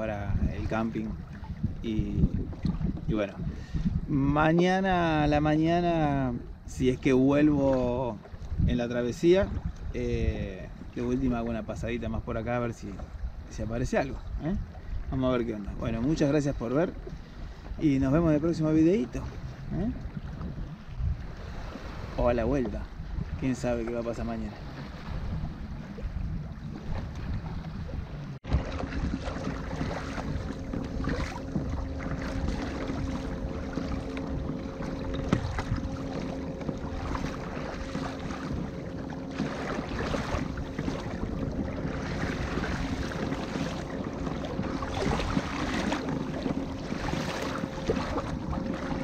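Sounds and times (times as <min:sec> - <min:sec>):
water splashing against hull: 0:00.0 - 0:49.0
wind on microphone: 0:00.0 - 0:49.0.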